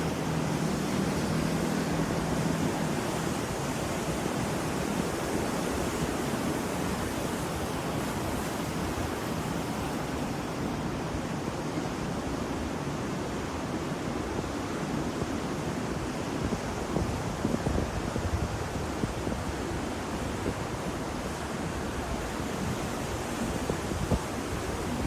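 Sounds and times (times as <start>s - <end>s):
ocean waves on the shore: 0.0s - 25.0s.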